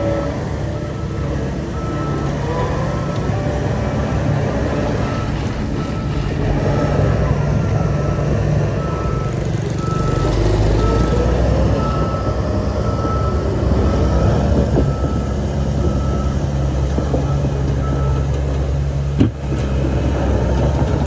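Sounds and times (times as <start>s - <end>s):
reversing alarm beeping: 0.0s - 18.8s
diesel engine drone: 0.0s - 21.0s.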